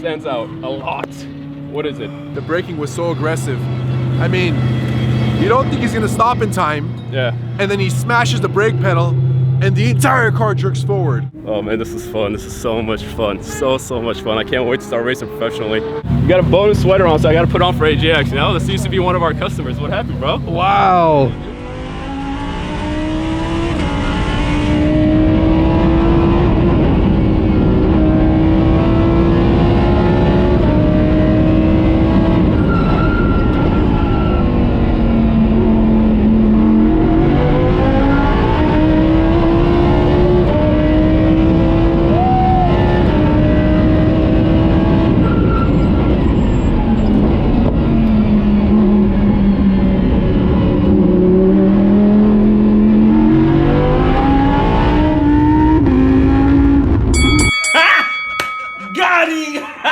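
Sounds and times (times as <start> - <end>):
race car engine accelerating: 0.0 - 57.2.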